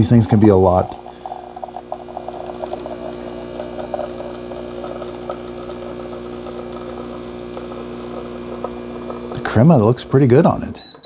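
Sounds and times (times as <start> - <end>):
espresso machine pump humming: 0.0 - 11.0
espresso streaming into glass: 0.0 - 11.0.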